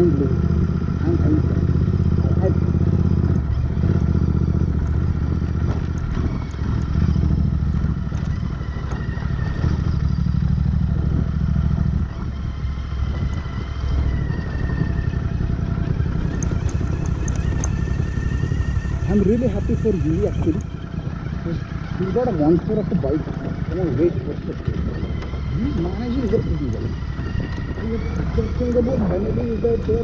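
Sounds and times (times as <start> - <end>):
motorcycle engine at low revs: 0.0 - 30.0.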